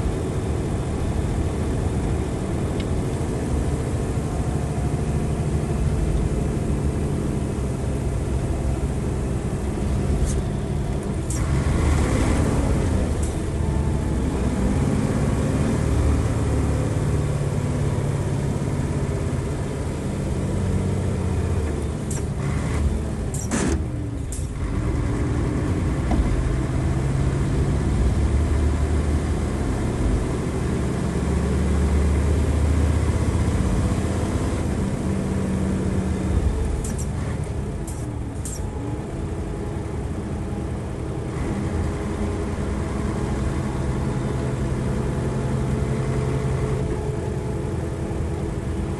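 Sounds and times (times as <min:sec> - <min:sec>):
diesel bus engine running: 0:00.0 - 0:48.9.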